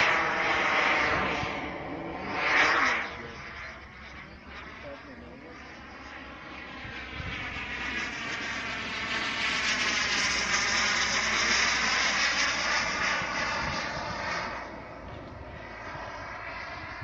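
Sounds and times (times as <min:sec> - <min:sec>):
model jet turbine whining: 0:00.0 - 0:17.0.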